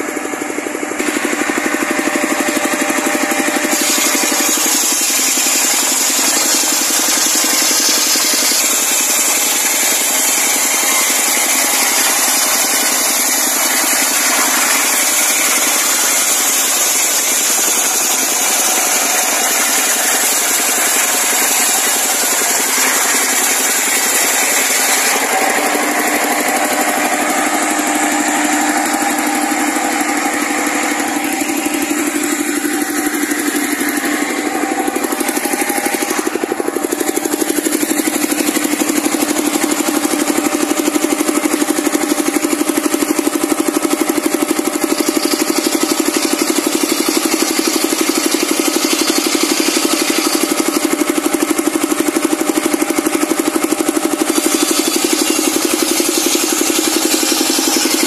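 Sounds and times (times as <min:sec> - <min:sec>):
circular saw cutting log: 0:00.0 - 0:58.0
diesel engine running steadily: 0:00.0 - 0:58.0.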